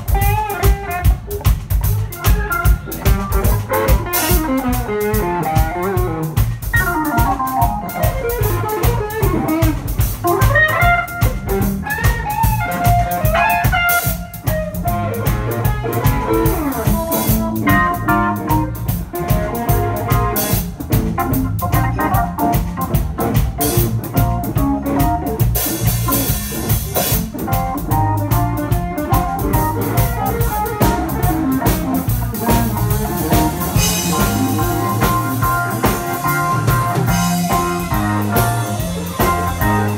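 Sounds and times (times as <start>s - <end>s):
drum kit steady beat: 0.0s - 39.9s
electric guitar: 0.0s - 39.9s
keyboard organ: 0.0s - 39.9s.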